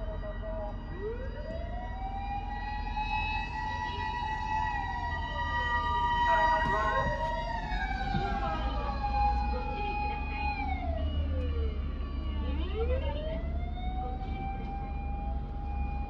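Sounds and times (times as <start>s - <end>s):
mechanical motor siren wailing: 0.0s - 16.0s.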